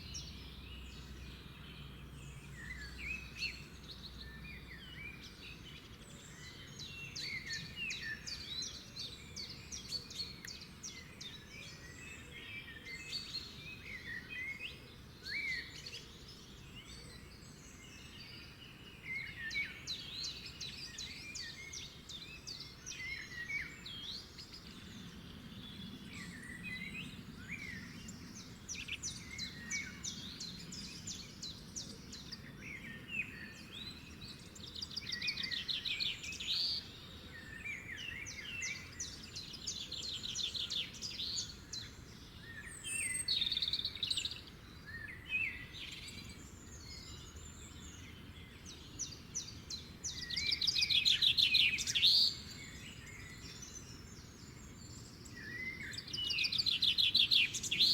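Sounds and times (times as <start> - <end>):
songbirds trilling and chirping: 0.0 - 57.9.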